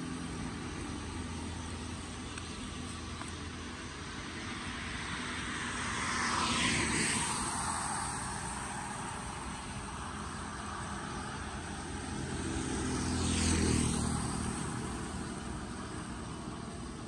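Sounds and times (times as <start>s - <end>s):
traffic noise: 0.0s - 17.0s
tyre hiss on wet road: 0.3s - 16.8s.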